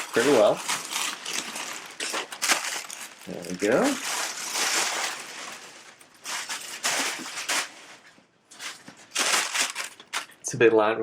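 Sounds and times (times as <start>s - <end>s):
plastic packing crinkling: 0.0s - 10.4s.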